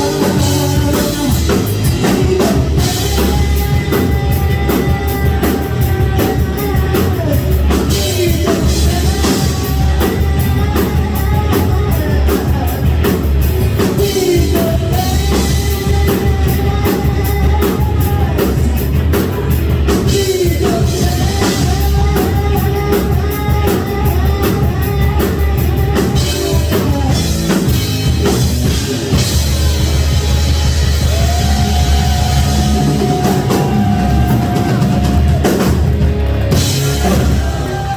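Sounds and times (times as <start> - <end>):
drum kit beat: 0.0 - 37.9
live rock band playing: 0.0 - 37.9
loud electric guitars: 0.0 - 37.9.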